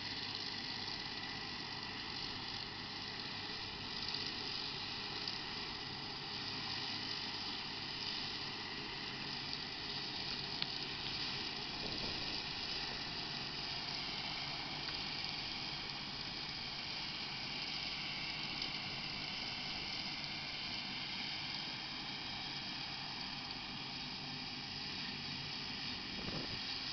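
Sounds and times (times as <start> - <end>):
tractor diesel engine under load: 0.0 - 23.8
rotary topper mowing: 0.0 - 26.9.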